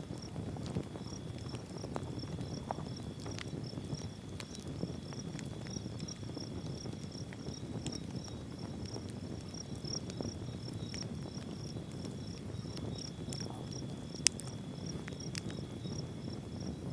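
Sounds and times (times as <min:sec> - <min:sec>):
high insect whine: 0:00.1 - 0:16.9
insects chirping: 0:00.1 - 0:16.9.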